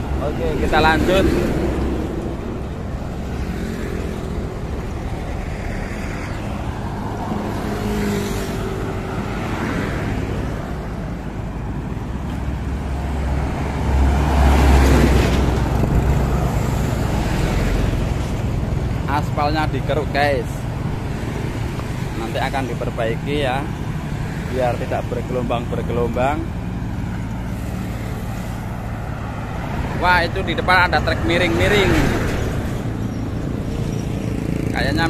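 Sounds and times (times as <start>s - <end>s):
vehicles passing with low rumble: 0.0s - 35.0s.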